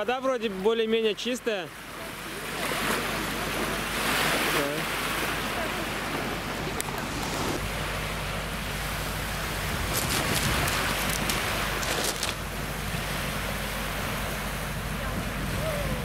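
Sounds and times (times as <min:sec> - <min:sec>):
wind: 0:00.0 - 0:16.0
small waves on a pebble beach: 0:00.5 - 0:16.0.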